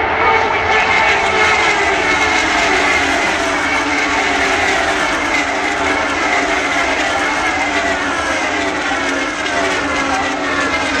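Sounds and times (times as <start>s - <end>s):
racing car engines passing: 0.1s - 11.0s.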